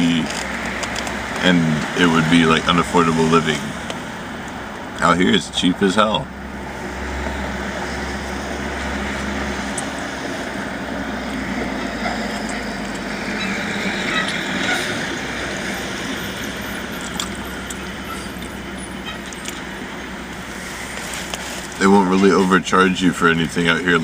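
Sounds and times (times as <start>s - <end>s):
car interior road noise: 0.0s - 24.0s.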